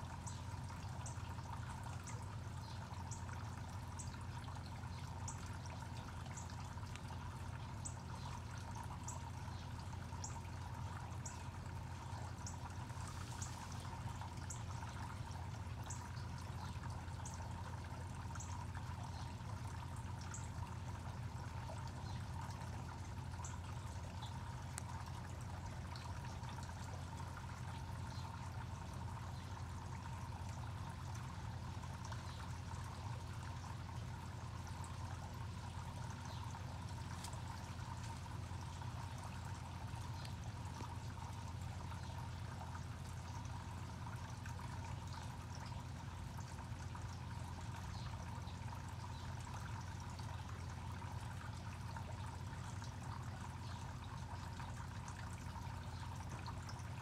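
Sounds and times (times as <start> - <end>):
trickling water: 0.0 - 57.0.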